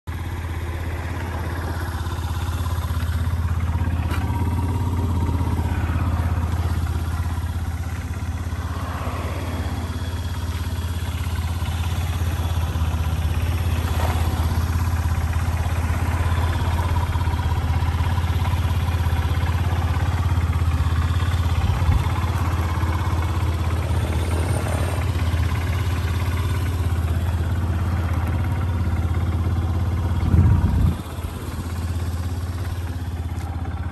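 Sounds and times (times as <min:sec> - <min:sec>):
scooter engine idling: 0:00.0 - 0:33.9.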